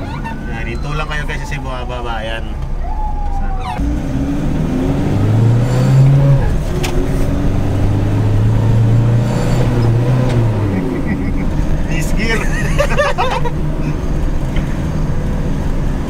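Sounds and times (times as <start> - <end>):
van engine accelerating: 0.0 - 16.0.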